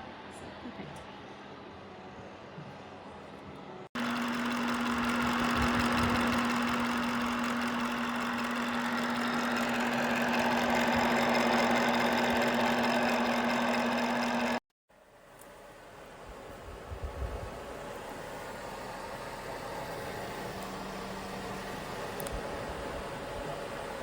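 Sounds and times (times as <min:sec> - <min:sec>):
heater fan blowing air: 0:04.0 - 0:14.6, 0:15.3 - 0:24.0.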